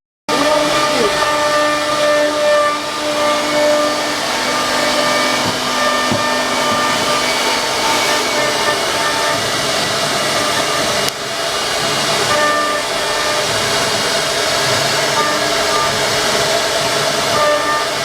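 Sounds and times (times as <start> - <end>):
hiss of wood cutting: 0.3 - 18.0
router spindle motor whining: 0.3 - 18.0.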